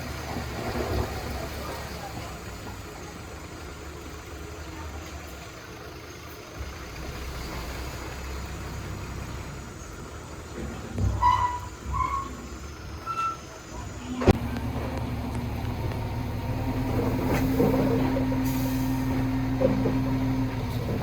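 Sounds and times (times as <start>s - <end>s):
diesel engine rumbling at low revs: 0.0s - 21.0s.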